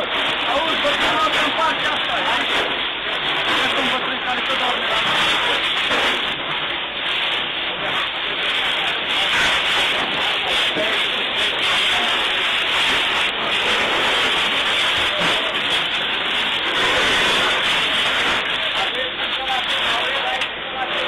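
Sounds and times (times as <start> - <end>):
fire hose water spray: 0.0 - 21.0
flames burning: 0.0 - 21.0.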